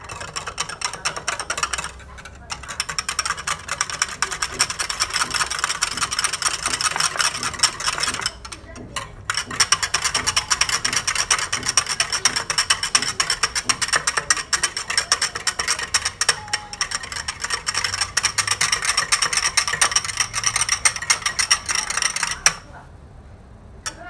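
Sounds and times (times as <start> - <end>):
whisk beating in a ceramic bowl: 0.0 - 22.8.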